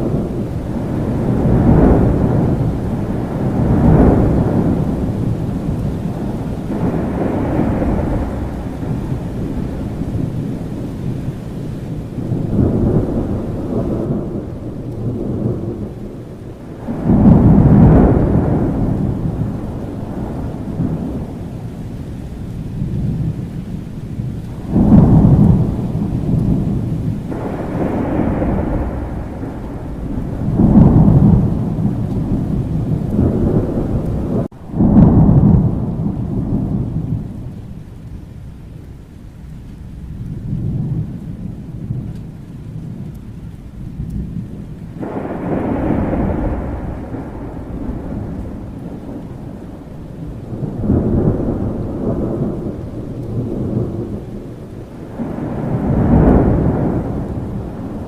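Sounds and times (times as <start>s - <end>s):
steady rain: 0.0s - 58.0s
thunder rumbling: 0.0s - 58.0s.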